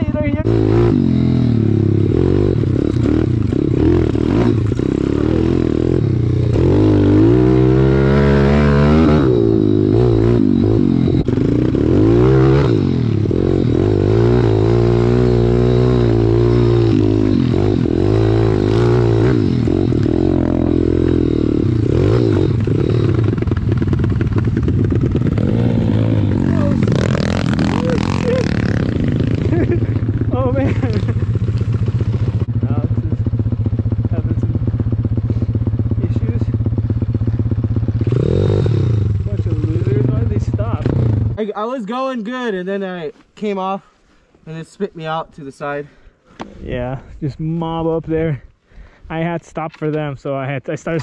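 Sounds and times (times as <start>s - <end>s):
motorbike engine revving: 0.0s - 41.4s.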